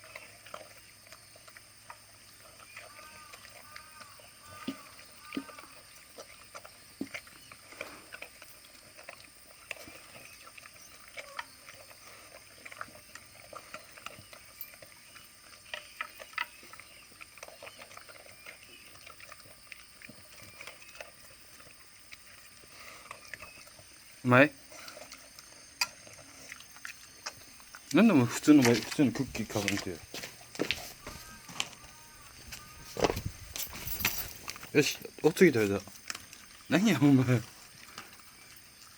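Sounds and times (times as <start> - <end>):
dog chewing and lapping food: 0.0 - 38.9.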